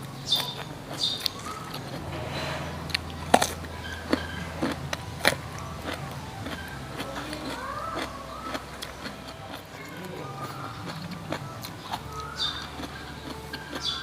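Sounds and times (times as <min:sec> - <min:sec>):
crunchy food chewing: 0:00.0 - 0:14.0.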